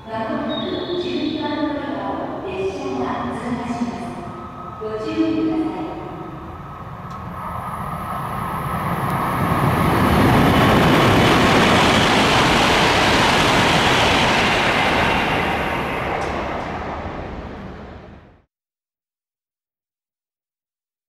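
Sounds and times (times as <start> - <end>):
high-speed train passing: 0.0 - 18.5.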